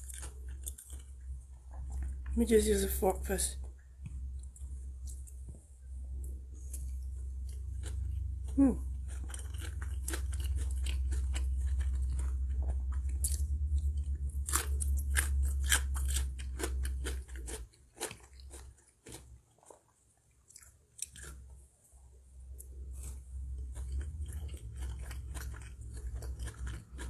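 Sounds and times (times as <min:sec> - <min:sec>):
person chewing noodles: 0:00.0 - 0:02.3, 0:06.2 - 0:21.6, 0:22.6 - 0:27.0
low steady hum: 0:00.0 - 0:27.0.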